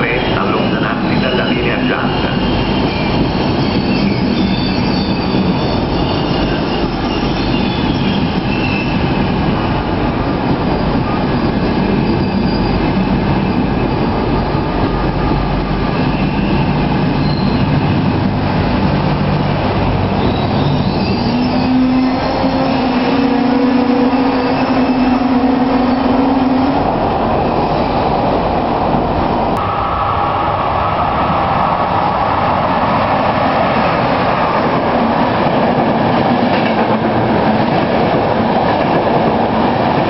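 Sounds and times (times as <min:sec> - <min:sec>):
train wheels rushing on rail: 0:00.0 - 0:40.0.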